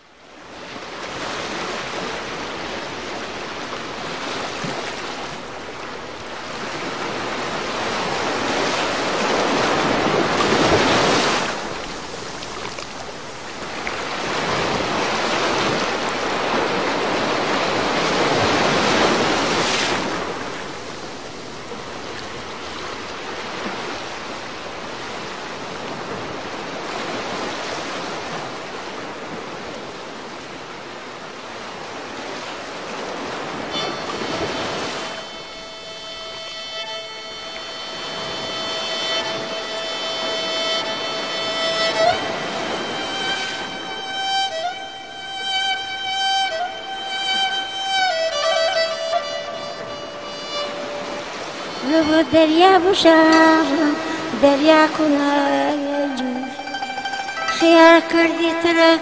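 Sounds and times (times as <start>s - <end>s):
sea surf waves rushing: 0.0s - 59.0s.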